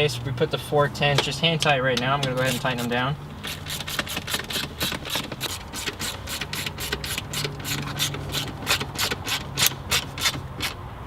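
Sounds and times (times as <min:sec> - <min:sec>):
ratchet wrench clicking: 0:01.6 - 0:10.8.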